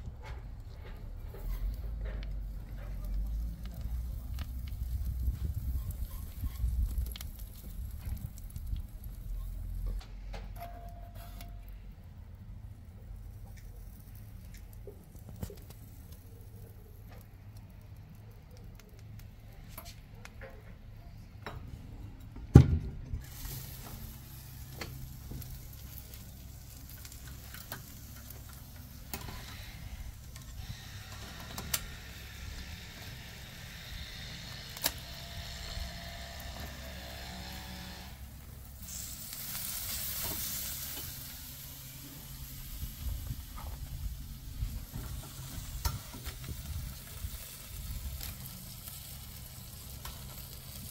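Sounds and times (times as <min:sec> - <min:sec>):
lobster sizzling on a grill: 0:01.0 - 0:10.0, 0:12.4 - 0:20.0, 0:23.2 - 0:50.9.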